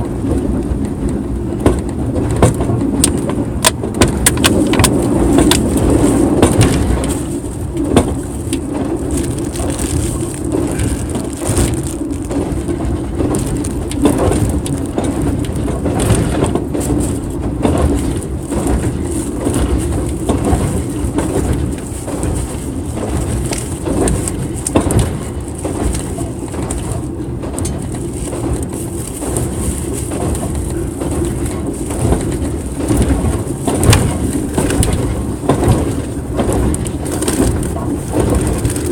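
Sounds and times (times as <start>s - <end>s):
train rumbling: 0.0s - 38.9s
wheels clicking on rails: 0.0s - 38.9s.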